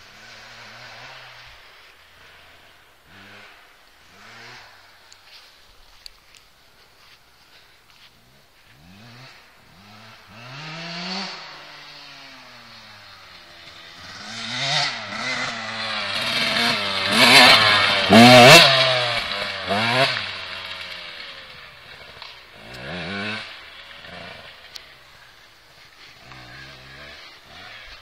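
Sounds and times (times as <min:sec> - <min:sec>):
dirt bike engine revving: 0:00.0 - 0:06.1, 0:06.8 - 0:28.0.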